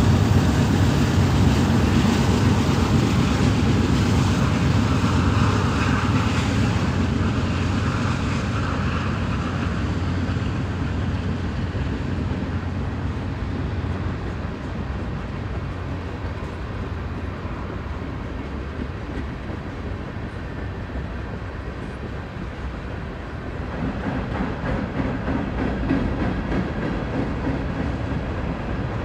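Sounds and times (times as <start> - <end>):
diesel locomotives pulling: 0.0 - 29.0
freight train rumbling on rails: 0.0 - 29.0.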